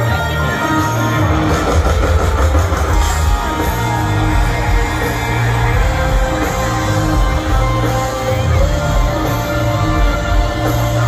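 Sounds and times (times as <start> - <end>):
electric guitar: 0.0 - 11.0
heavy bass: 0.0 - 11.0.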